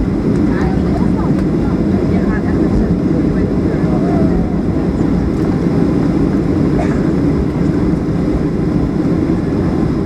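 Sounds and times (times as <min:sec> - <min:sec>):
airplane cabin low rumble: 0:00.0 - 0:10.0.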